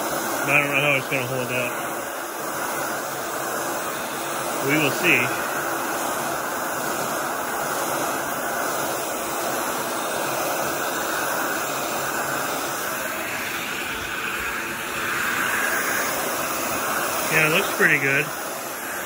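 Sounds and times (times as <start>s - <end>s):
heat gun blowing hot air: 0.0s - 19.0s.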